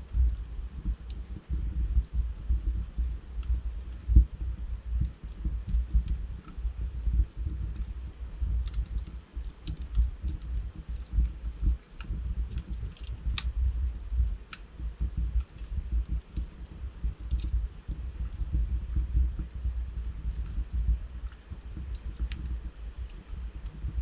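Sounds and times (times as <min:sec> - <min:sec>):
burning logs crackling and popping: 0:00.0 - 0:24.0
fire flames rumbling: 0:00.0 - 0:24.0.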